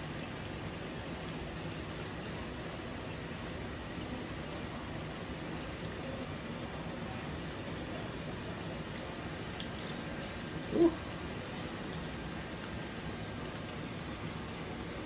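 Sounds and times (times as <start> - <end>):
wings deep-frying in hot oil: 0.0 - 15.0.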